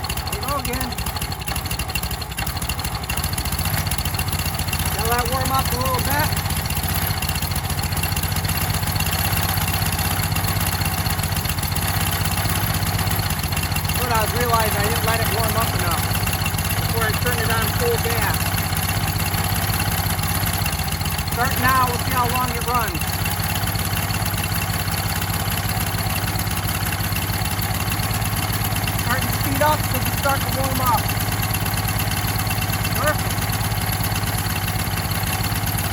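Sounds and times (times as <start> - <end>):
small generator engine idling: 0.0 - 35.9.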